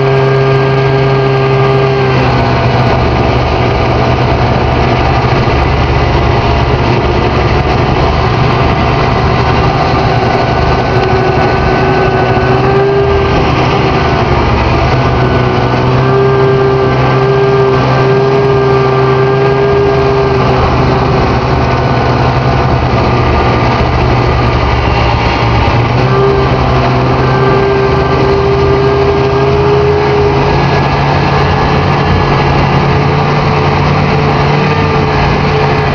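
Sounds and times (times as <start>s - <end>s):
high-pitched whine: 0.0s - 35.9s
snowmobile engine running: 0.0s - 35.9s.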